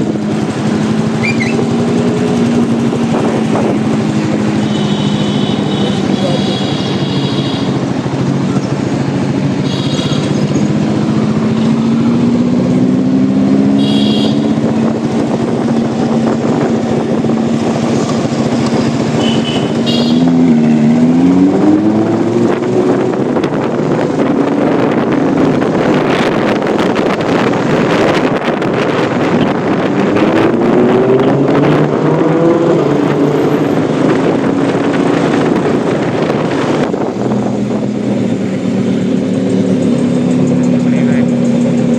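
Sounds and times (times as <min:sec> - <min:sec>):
engine crackling: 0:00.0 - 0:41.9
sports car engine revving: 0:00.0 - 0:41.9.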